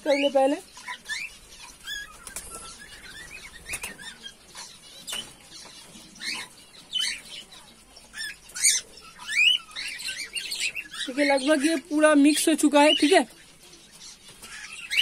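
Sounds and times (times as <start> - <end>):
cage birds chirping: 0.0 - 15.0.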